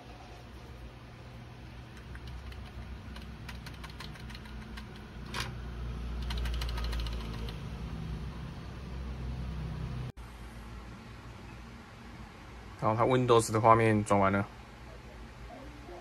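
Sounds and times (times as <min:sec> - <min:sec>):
computer fan hum: 0:00.0 - 0:16.0.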